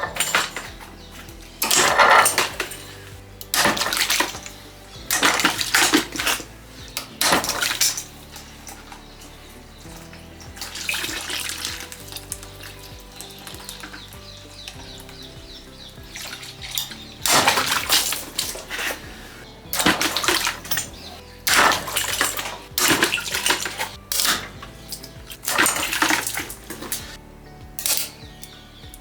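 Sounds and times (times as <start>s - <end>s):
water pouring into bucket: 0.0s - 27.2s
background music: 0.0s - 29.0s.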